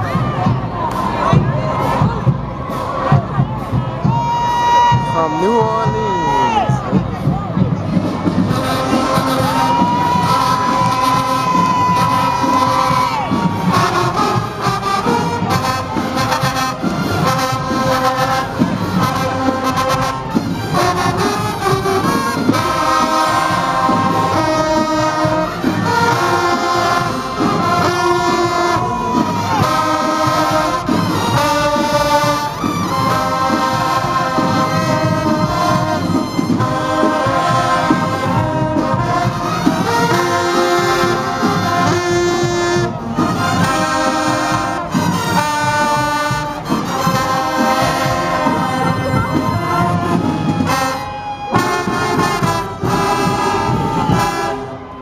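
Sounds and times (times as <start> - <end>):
marching band horns playing: 0.0 - 55.0.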